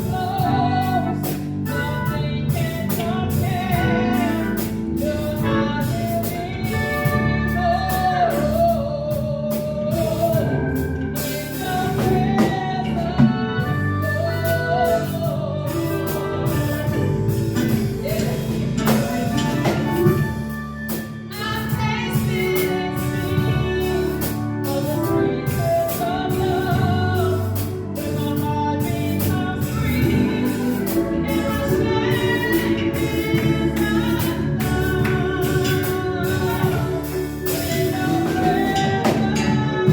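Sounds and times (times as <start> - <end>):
band playing: 0.0 - 39.9
drums keeping a steady beat: 0.0 - 39.9
singers leading a worship song: 0.0 - 39.9.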